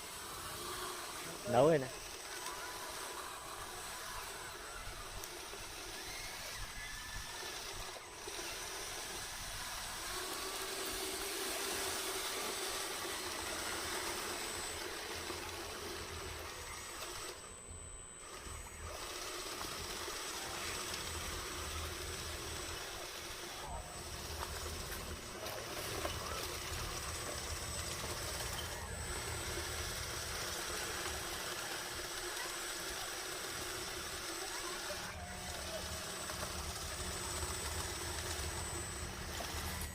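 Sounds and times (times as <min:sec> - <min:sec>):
model bulldozer motor whining: 0:00.0 - 0:39.9.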